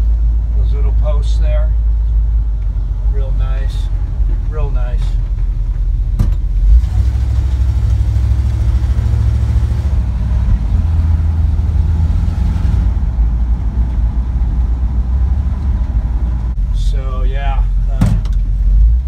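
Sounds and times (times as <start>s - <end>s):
truck engine low rumble: 0.0s - 19.0s.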